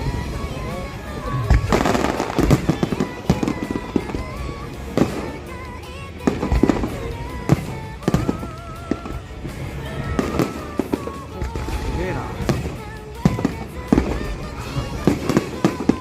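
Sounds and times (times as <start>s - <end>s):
fireworks booming: 0.0s - 16.0s
music playing: 0.0s - 16.0s.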